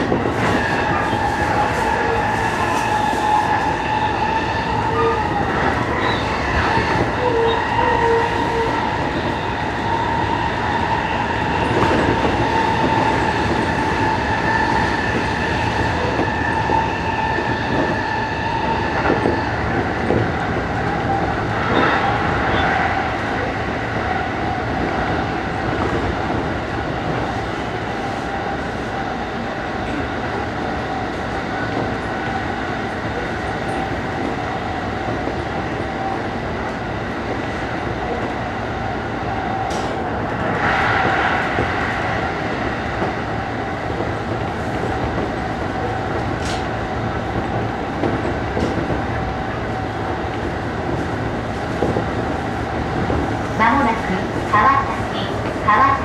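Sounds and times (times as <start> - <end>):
constant train motor tone: 0.0 - 56.0
train wheels rumbling on rail: 0.0 - 56.0.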